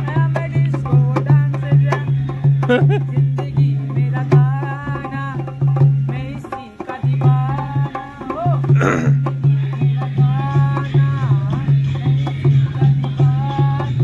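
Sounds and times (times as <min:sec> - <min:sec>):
hand drum booming strokes: 0:00.0 - 0:14.0.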